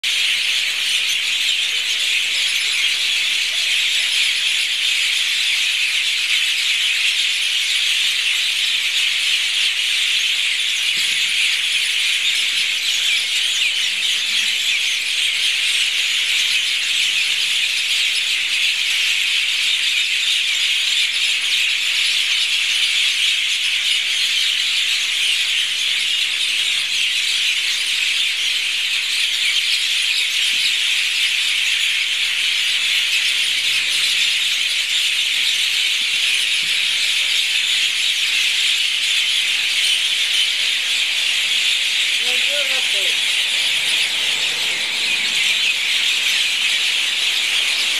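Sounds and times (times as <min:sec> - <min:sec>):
flock of birds chattering: 0:00.0 - 0:47.9.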